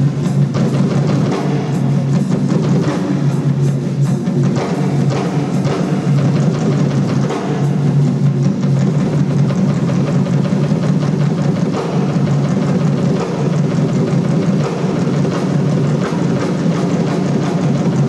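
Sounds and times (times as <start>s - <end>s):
drum strikes: 0.0s - 18.0s.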